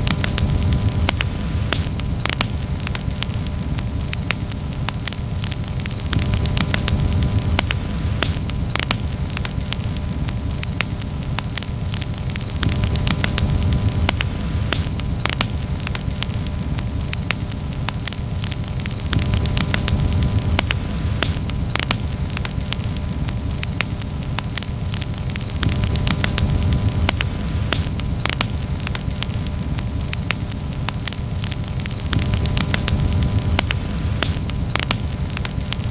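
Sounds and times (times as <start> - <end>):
campfire crackling and popping: 0.0 - 35.9
low rumble of burning: 0.0 - 35.9.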